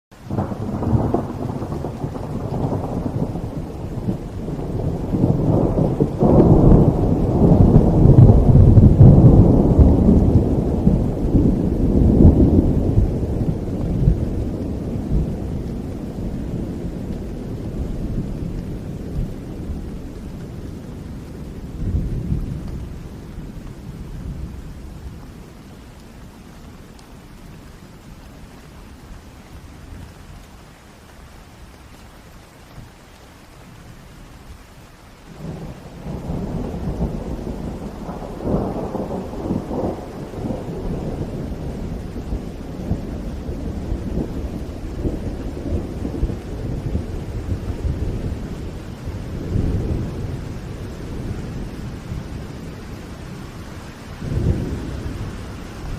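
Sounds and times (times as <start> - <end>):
steady rain: 0.1 - 55.9
thunder rumbling: 0.2 - 30.7, 33.6 - 55.9.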